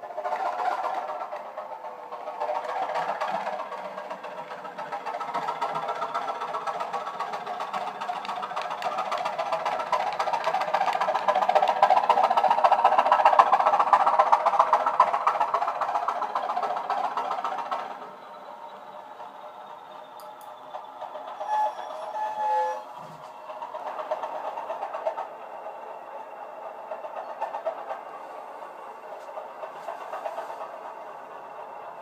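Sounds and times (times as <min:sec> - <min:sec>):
model train wheels clicking: 0:00.0 - 0:32.0.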